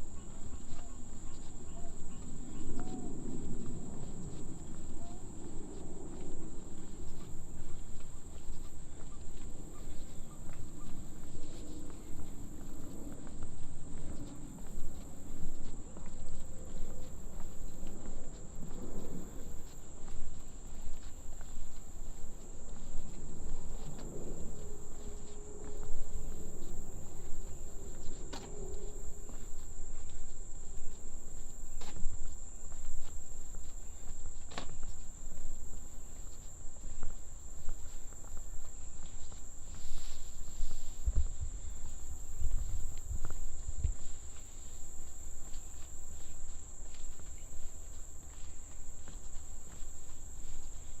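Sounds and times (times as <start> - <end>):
footsteps on a trail: 0.0 - 51.0.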